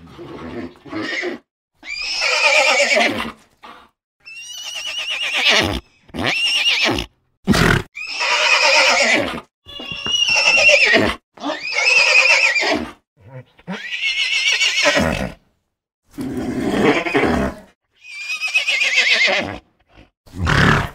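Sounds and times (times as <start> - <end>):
horse whinnying: 0.0 - 3.4, 4.2 - 15.4, 16.2 - 20.9.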